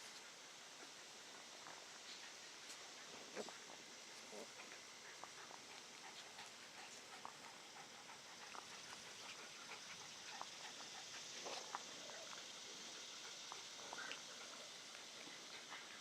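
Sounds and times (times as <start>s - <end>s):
puppies ticks and rustles: 0.0s - 16.0s
steady hiss: 0.0s - 16.0s.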